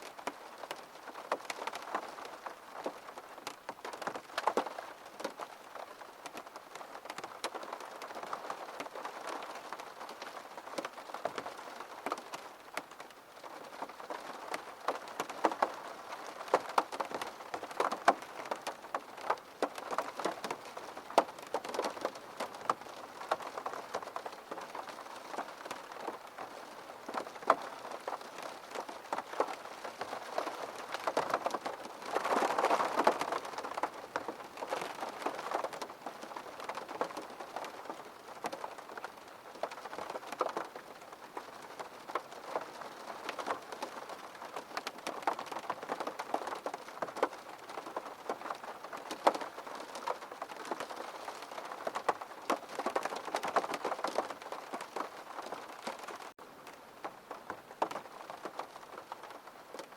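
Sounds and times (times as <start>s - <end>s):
raindrops ticking on glass: 0.0s - 59.9s.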